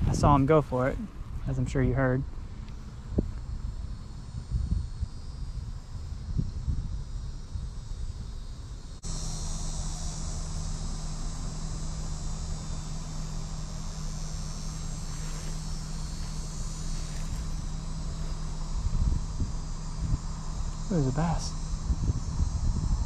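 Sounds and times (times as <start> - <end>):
insect chorus buzzing: 0.0 - 23.0
low steady hum: 0.0 - 23.0
wind rumble: 0.0 - 23.0.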